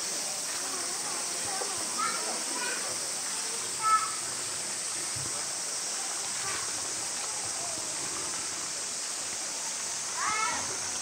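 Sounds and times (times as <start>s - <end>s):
faint distant voices: 0.0s - 11.0s
outdoor background hiss: 0.0s - 11.0s.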